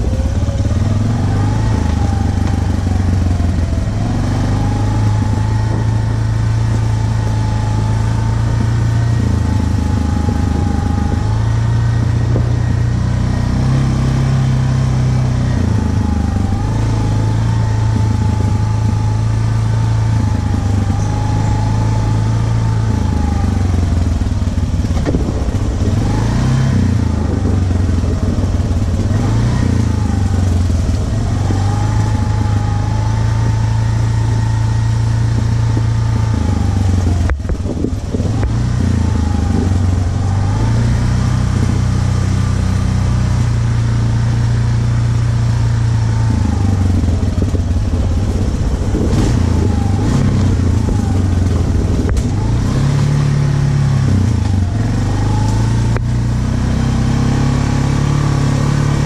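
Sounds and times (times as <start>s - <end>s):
atv engine running: 0.0s - 59.0s
rising and dipping whine: 0.0s - 59.0s.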